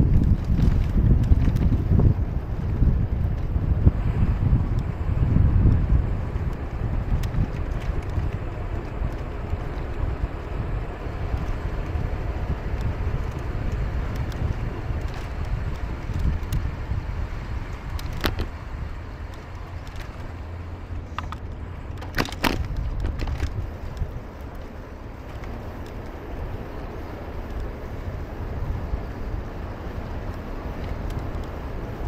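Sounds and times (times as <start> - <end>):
city traffic: 0.0 - 32.0
wind rumble on microphone: 0.0 - 32.0.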